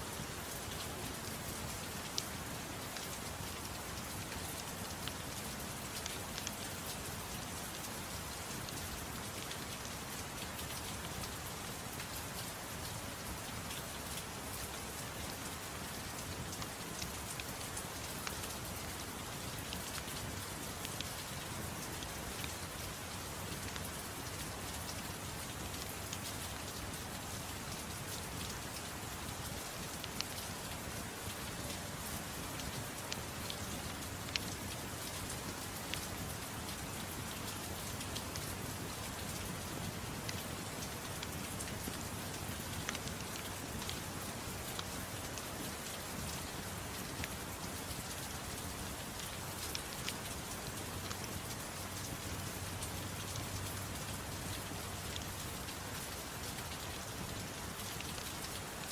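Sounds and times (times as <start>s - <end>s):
steady gentle rain: 0.0s - 58.9s.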